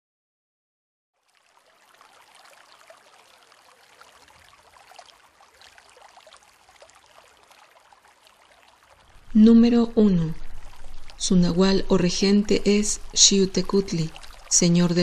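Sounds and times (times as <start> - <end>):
trickling water: 1.2 - 15.0.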